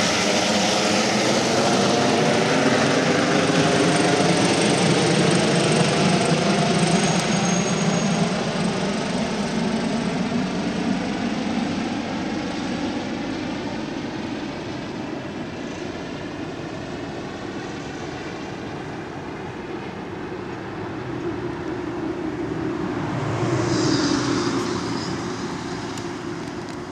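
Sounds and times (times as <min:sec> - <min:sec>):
helicopter in flight: 0:00.0 - 0:26.9.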